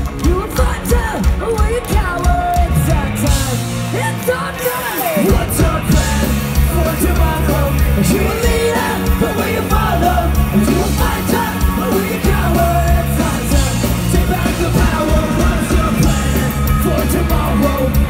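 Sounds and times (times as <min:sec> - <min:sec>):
live ska-punk band playing: 0:00.0 - 0:18.0
voices singing: 0:00.2 - 0:18.0.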